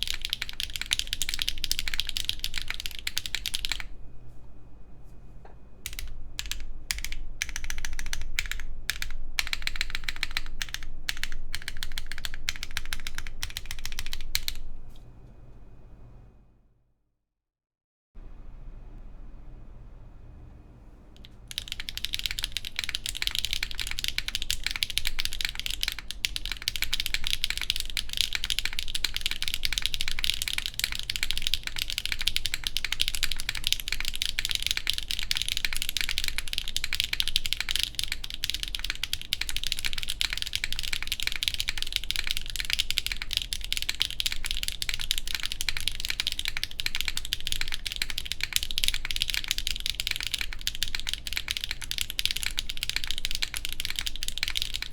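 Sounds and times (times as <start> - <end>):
mechanical keyboard typing: 0.0 - 3.9, 5.9 - 14.7, 21.2 - 54.9.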